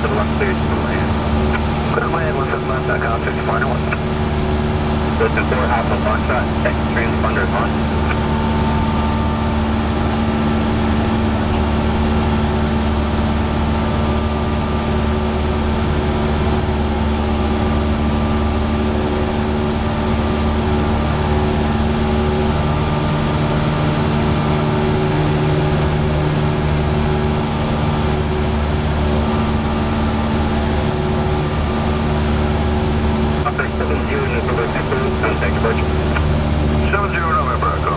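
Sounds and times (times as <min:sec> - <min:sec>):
airplane engine drone: 0:00.0 - 0:37.9.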